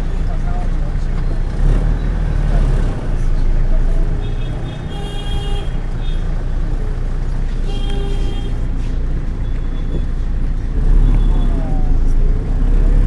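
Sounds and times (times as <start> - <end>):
bus engine drone: 0.0 - 13.0
road rumble: 0.0 - 13.0.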